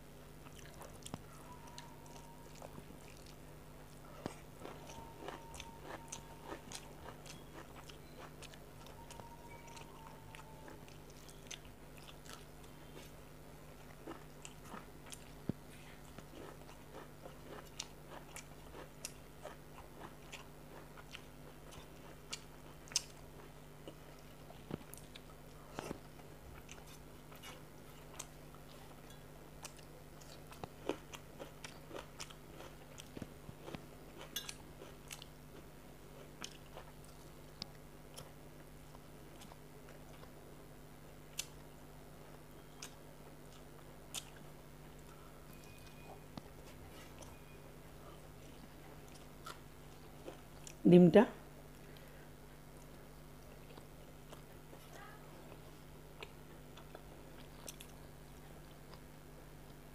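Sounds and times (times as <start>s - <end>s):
steady low hum: 0.0s - 59.9s
chewing and lip smacks: 0.4s - 13.2s, 13.8s - 35.4s, 36.1s - 40.4s, 41.3s - 41.7s, 42.5s - 47.4s, 48.0s - 50.8s, 52.7s - 59.8s.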